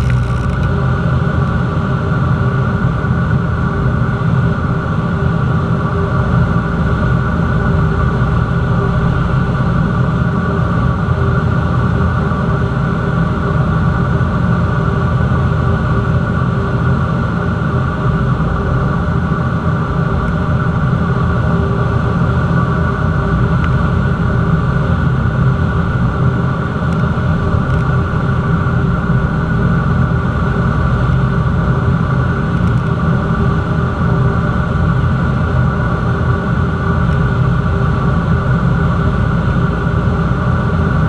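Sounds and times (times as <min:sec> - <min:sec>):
light aircraft engine droning: 0:00.0 - 0:41.0.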